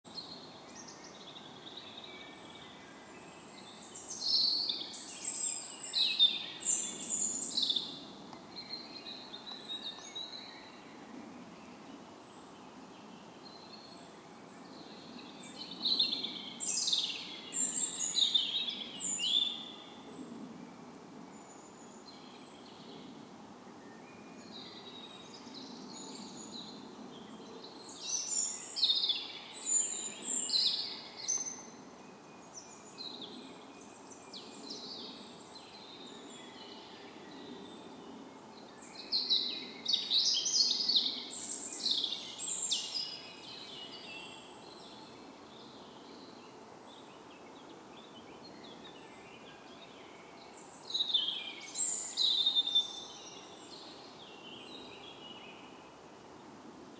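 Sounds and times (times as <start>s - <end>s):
songbirds singing: 0.0s - 56.9s
steady background hiss: 0.1s - 56.9s.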